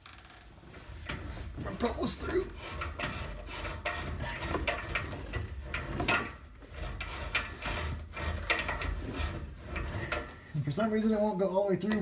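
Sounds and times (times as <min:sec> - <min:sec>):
pipe cutter scraping metal pipe: 0:00.6 - 0:10.6.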